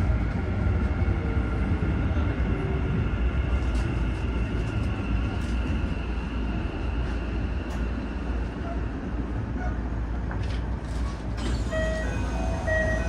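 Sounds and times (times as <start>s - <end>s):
electric train low rumble: 0.0s - 13.0s
high train whines: 0.0s - 13.0s.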